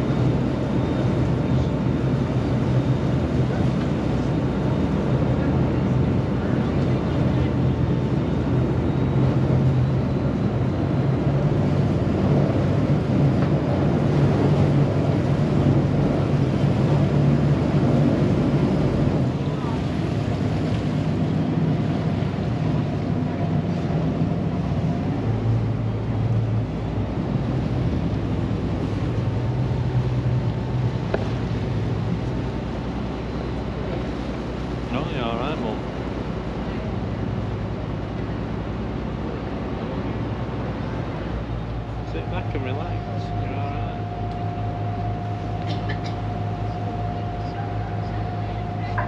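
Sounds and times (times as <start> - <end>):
boat engine running: 0.0 - 49.0
propeller churning water: 0.0 - 49.0.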